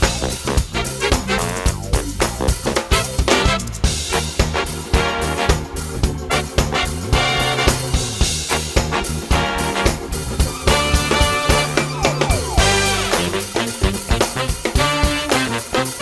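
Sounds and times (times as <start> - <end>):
upbeat swing music with brass: 0.0 - 16.0.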